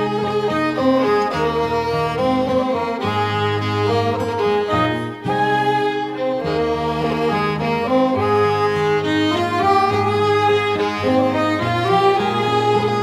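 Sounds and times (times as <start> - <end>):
bowed strings playing held notes: 0.0 - 13.0.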